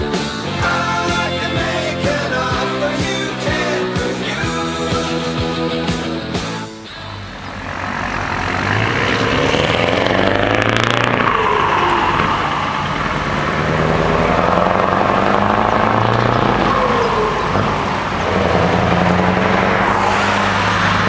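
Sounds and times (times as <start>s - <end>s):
road noise: 0.0s - 21.0s
truck engine accelerating: 0.0s - 21.0s.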